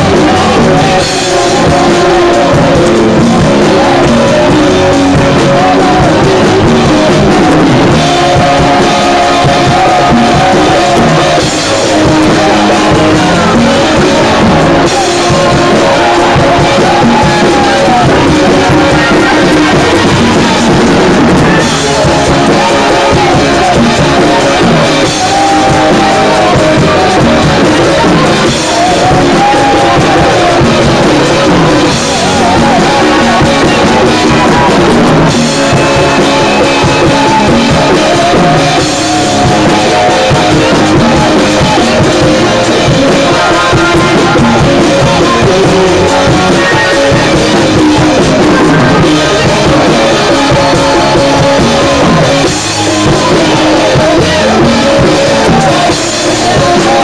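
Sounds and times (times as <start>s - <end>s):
drums: 0.0s - 57.0s
electronic keyboard: 0.0s - 57.0s
voices singing: 0.0s - 57.0s.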